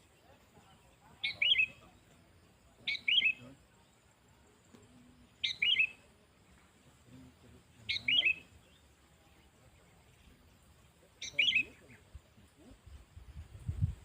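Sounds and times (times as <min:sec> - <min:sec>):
bulbul calling: 0:00.0 - 0:03.9, 0:04.7 - 0:06.2, 0:06.9 - 0:12.9.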